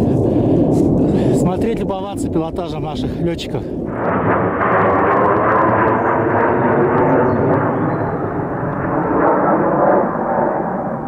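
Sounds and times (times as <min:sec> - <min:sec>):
fighter jets roaring overhead: 0:00.0 - 0:11.0.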